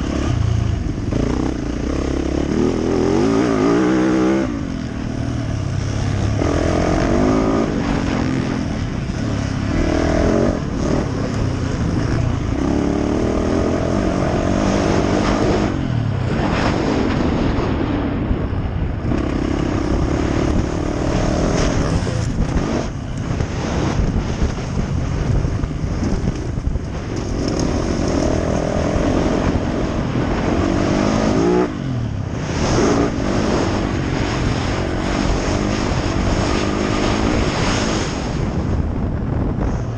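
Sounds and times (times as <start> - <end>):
dirt bike engine revving: 0.0 - 18.2, 19.0 - 38.6.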